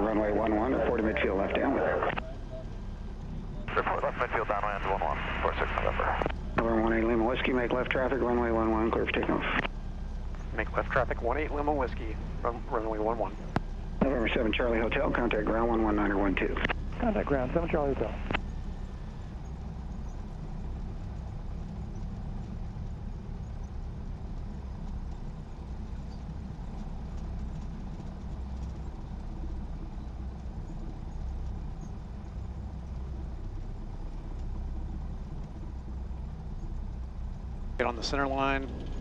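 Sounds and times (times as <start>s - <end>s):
light aircraft piston engine: 0.0s - 39.0s.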